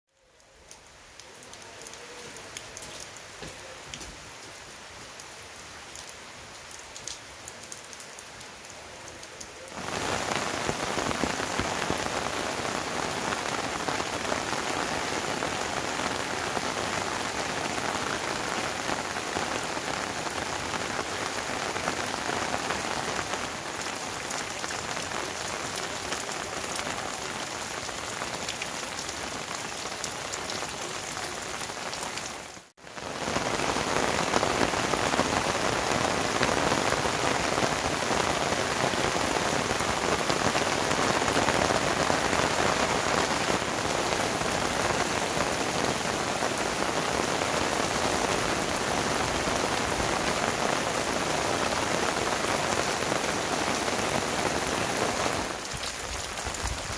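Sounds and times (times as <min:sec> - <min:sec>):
rain falling: 0:00.1 - 0:56.9
scattered raindrops: 0:00.1 - 0:56.9.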